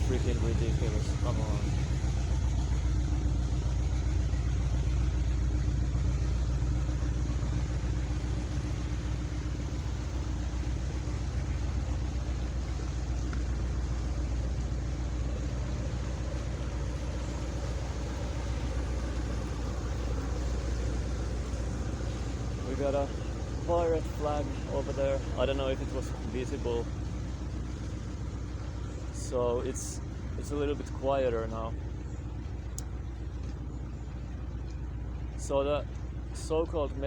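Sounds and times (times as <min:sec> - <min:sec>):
boat engine rumbling: 0:00.0 - 0:37.0.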